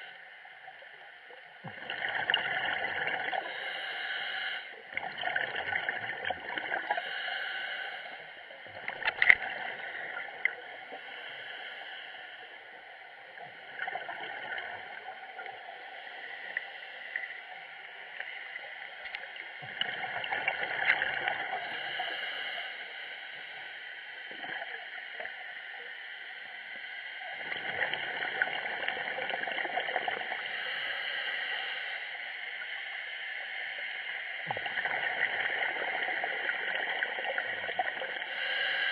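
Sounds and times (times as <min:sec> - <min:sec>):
muffled hiss: 0:00.0 - 0:38.9
underwater bubbles gurgling: 0:00.7 - 0:04.0, 0:04.8 - 0:22.5, 0:23.4 - 0:25.6, 0:27.1 - 0:30.9, 0:32.6 - 0:38.9.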